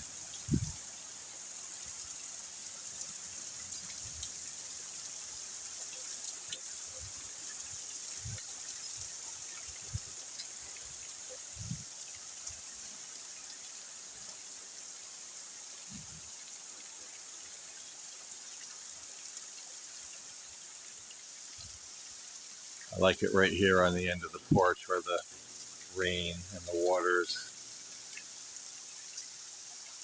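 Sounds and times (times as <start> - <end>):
rain falling and splashing: 0.0 - 30.0.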